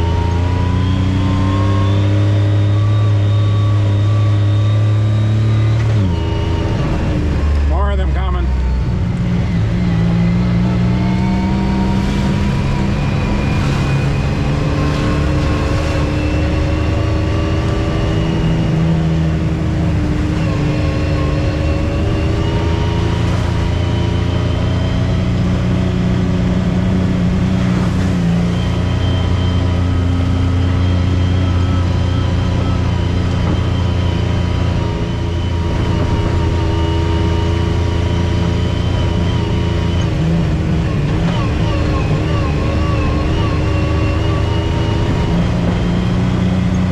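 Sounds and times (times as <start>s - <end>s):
off-road vehicle engine rumbling: 0.0s - 46.9s.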